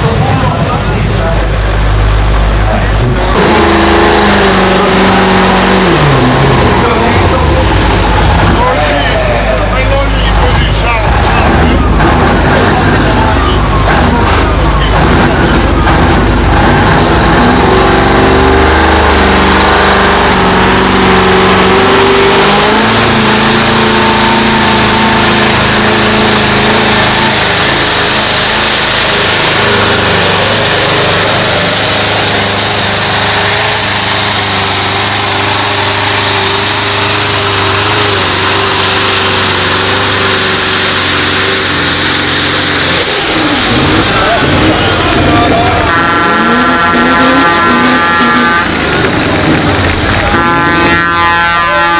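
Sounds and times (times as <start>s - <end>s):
tractor engine running hard: 0.0s - 51.9s.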